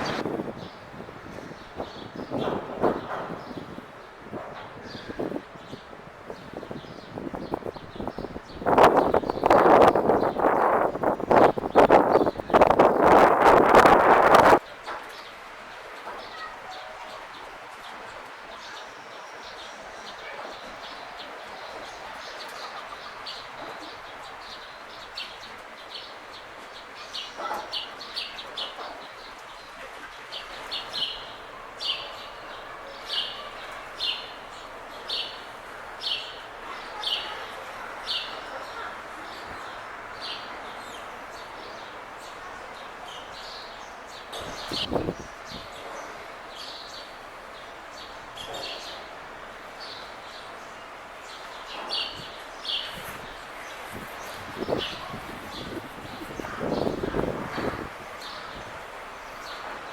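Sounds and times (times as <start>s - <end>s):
steady background hiss: 3.8s - 59.9s.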